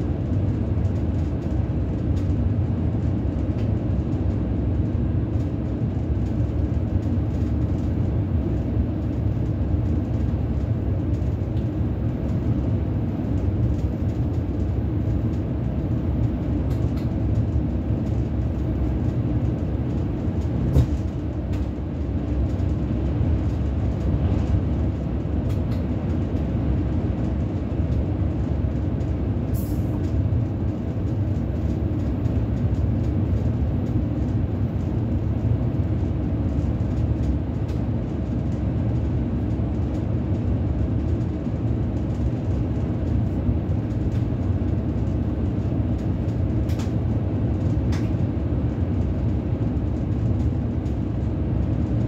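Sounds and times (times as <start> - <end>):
train running gear rumbling on rails: 0.0 - 52.0.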